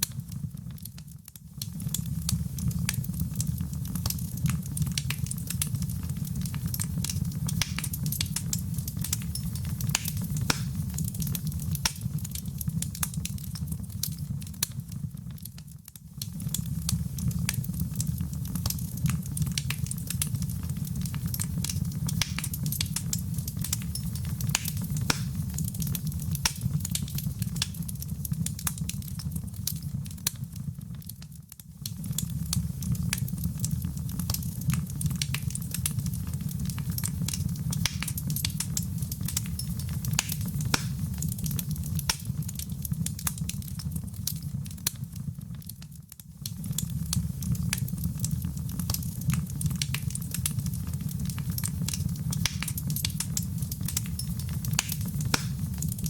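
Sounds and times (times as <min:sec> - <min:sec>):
sharp pops of fire: 0:00.0 - 0:56.0
wood fire crackling: 0:00.0 - 0:56.0.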